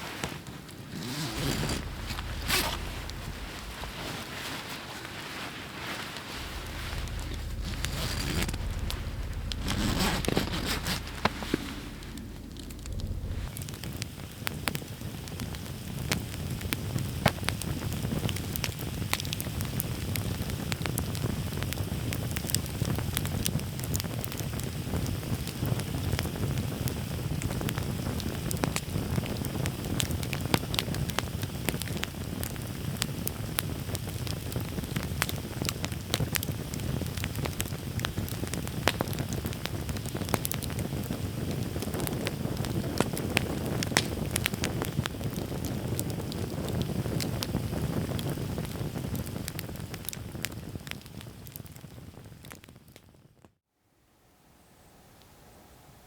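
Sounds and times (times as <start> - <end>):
campfire crackling and popping: 0.0 - 52.8.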